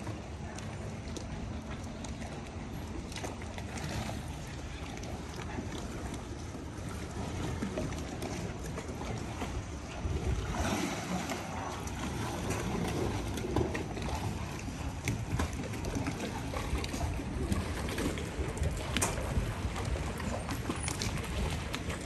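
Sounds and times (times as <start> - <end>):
water lapping: 0.0 - 22.0
wind on microphone: 3.7 - 22.0.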